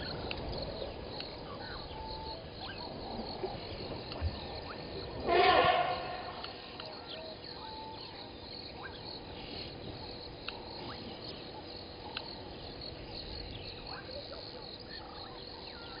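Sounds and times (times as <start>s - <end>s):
insects and frogs chirping: 0.0s - 16.0s.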